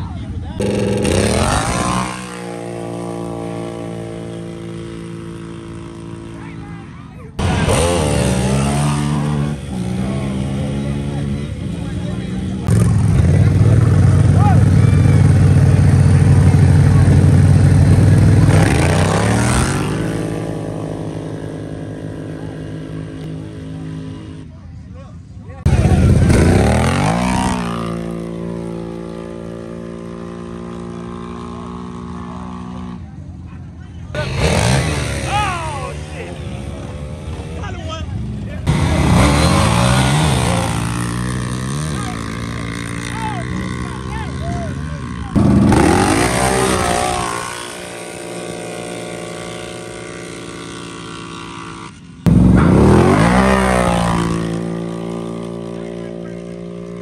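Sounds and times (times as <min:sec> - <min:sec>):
atv engines revving at full throttle: 0:00.0 - 0:57.0.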